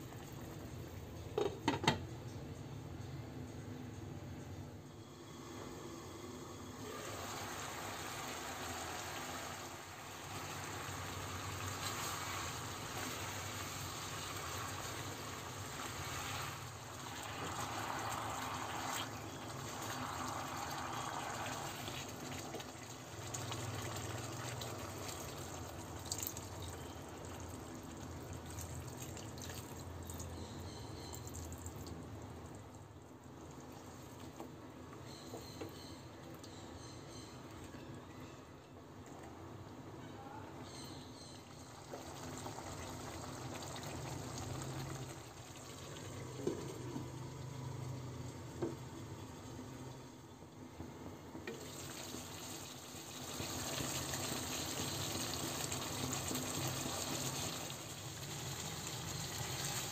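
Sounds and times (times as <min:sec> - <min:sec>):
gravy bubbling and sizzling: 0:04.9 - 0:37.7, 0:40.6 - 0:59.9.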